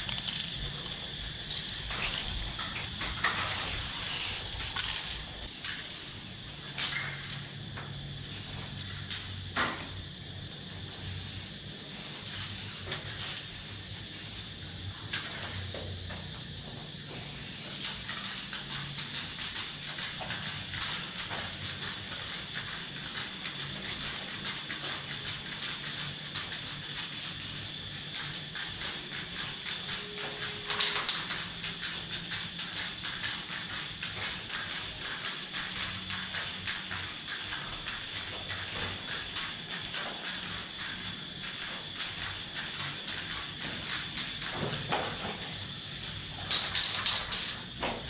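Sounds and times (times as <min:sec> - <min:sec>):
spray paint cans hissing: 0:00.0 - 0:48.0.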